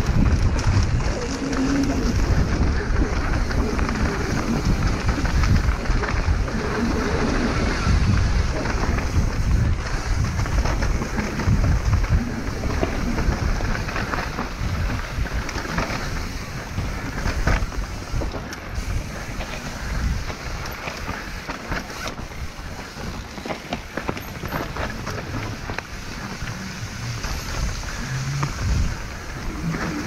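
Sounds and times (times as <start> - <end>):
bike rattling: 0.0 - 30.0
tyres rumbling on dirt: 0.0 - 30.0
wind buffeting microphone: 0.0 - 30.0.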